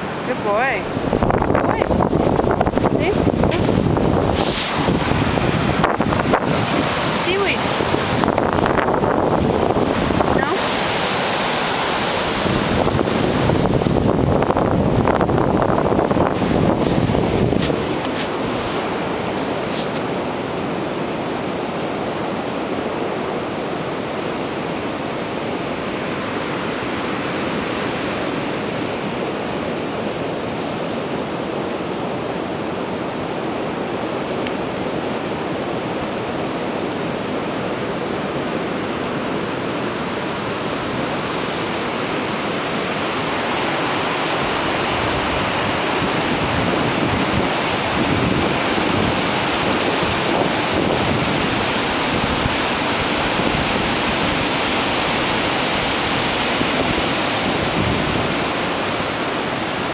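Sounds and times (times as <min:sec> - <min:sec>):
ocean surf breaking: 0:00.0 - 0:59.9
wind buffeting microphone: 0:00.0 - 0:59.9.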